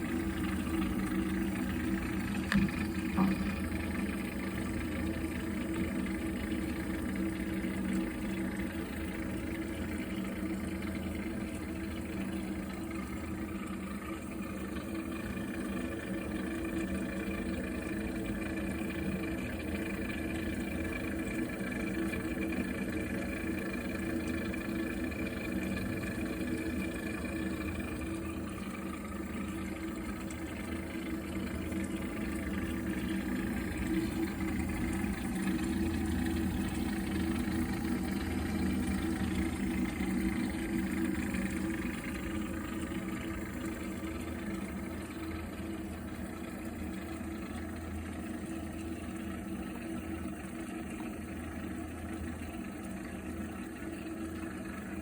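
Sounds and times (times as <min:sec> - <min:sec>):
gas boiler humming: 0:00.0 - 0:55.0.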